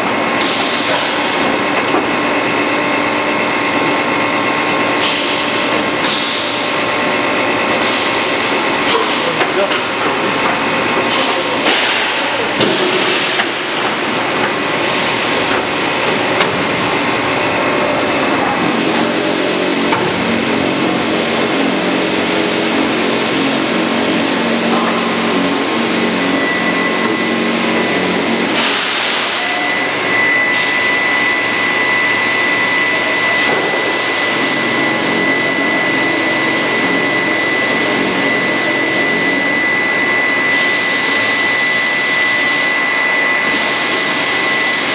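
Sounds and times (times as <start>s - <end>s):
high whine: 0.0s - 44.9s
loud machinery noise: 0.0s - 44.9s.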